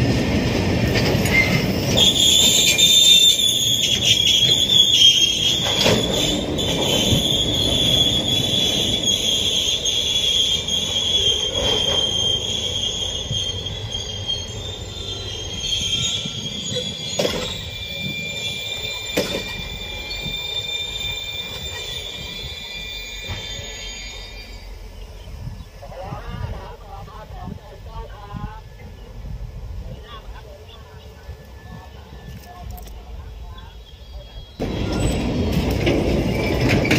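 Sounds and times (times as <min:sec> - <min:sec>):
railway wheels squealing: 0:00.2 - 0:26.8, 0:28.4 - 0:36.9.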